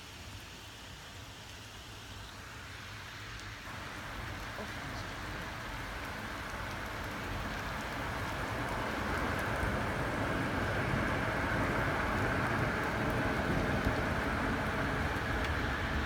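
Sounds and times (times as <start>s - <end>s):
heavy rain pouring: 0.2s - 16.0s.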